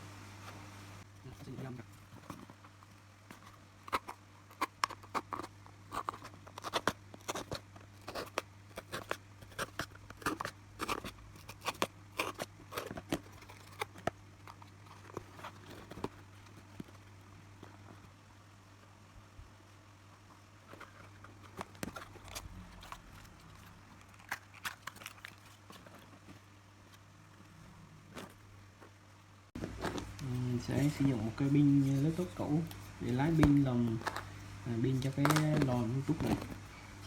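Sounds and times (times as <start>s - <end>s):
steady low hum: 0.0s - 37.0s
paper clicks and crunches: 1.3s - 18.1s, 20.6s - 27.5s, 29.6s - 37.0s.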